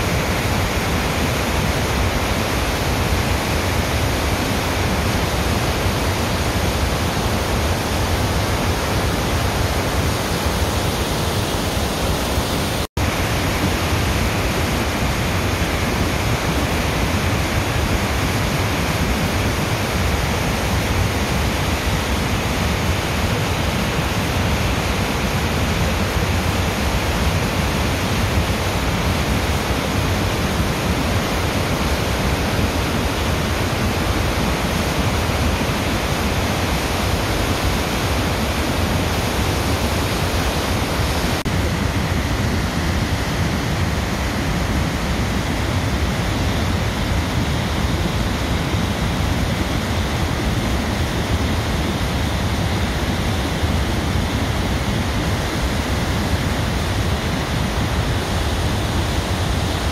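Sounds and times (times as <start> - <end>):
waterfall rushing over rocks: 0.0 - 59.9.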